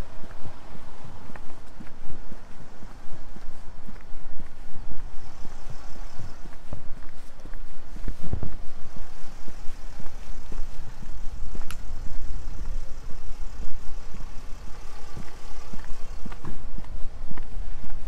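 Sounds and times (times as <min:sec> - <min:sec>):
footsteps on pavement: 0:00.0 - 0:18.0
low rumble of traffic: 0:00.0 - 0:18.0.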